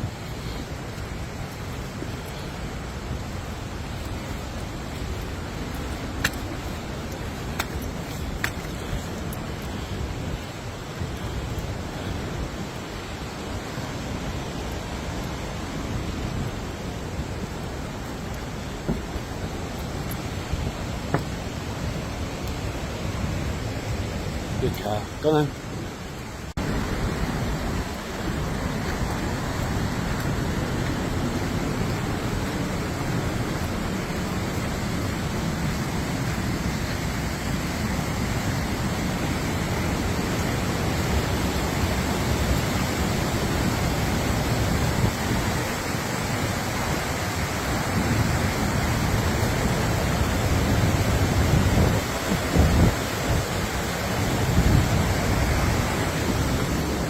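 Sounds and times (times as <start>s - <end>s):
rushing water: 0.0s - 57.0s
wind gusts on microphone: 0.0s - 57.0s.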